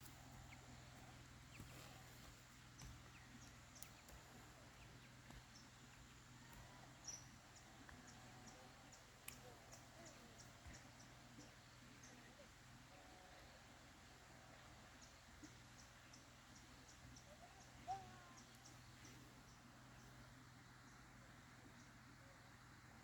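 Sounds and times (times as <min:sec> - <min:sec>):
faint ticks and chirps: 0:00.0 - 0:23.0
low steady hum: 0:00.0 - 0:23.0.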